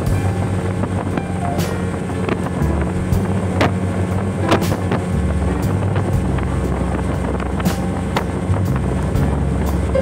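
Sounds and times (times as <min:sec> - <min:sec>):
speedboat engine droning: 0:00.0 - 0:10.0
wind on microphone: 0:00.0 - 0:10.0.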